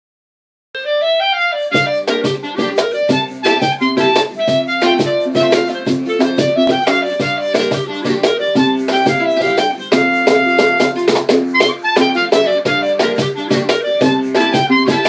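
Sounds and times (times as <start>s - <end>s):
held melody line: 0.8s - 15.0s
plucked guitar chords: 0.8s - 15.0s.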